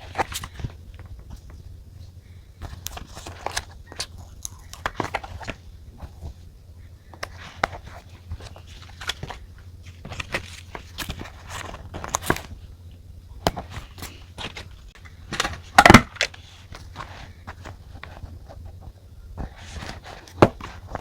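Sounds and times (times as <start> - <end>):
paper and stationery handled: 0.0 - 12.7, 13.5 - 21.0.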